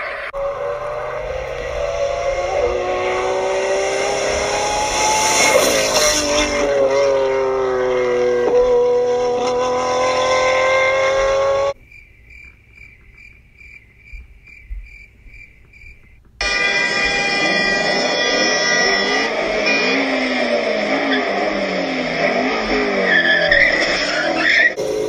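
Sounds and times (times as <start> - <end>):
loud street traffic: 0.0 - 11.8, 16.4 - 25.0
sports car engine revving: 0.1 - 11.8, 16.4 - 25.0.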